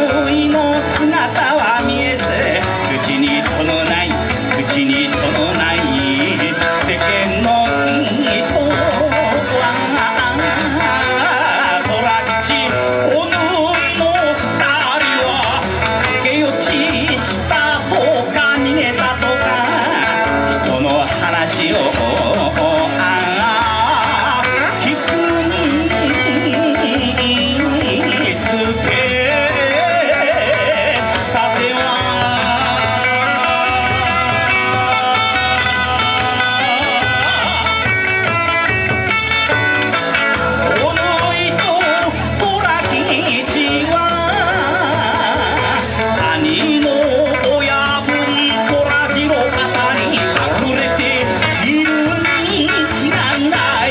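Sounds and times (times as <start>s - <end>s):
guitar: 0.0s - 53.9s
person singing: 0.0s - 53.9s
steady drum beat: 0.0s - 53.9s.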